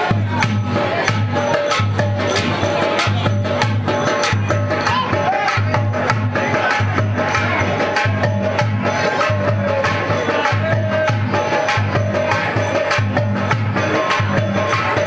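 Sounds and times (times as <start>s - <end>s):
drum beat: 0.0s - 15.0s
jingling percussion: 0.0s - 15.0s.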